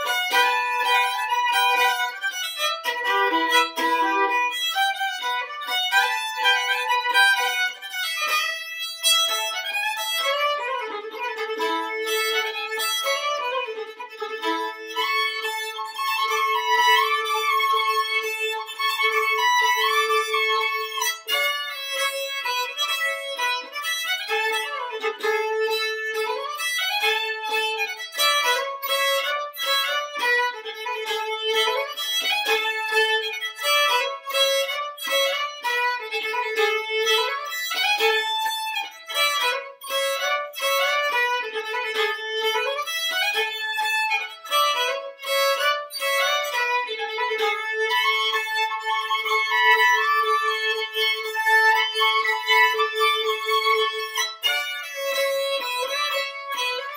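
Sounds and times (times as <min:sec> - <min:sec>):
solo fiddle folk tune: 0:00.0 - 0:56.9.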